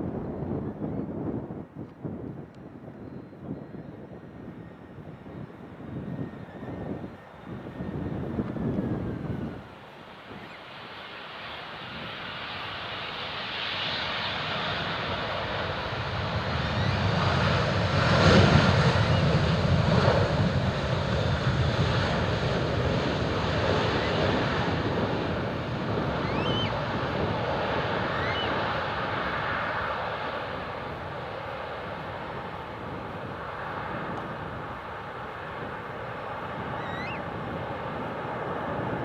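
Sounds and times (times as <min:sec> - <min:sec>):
jet airliner engines roaring: 0:00.0 - 0:39.0.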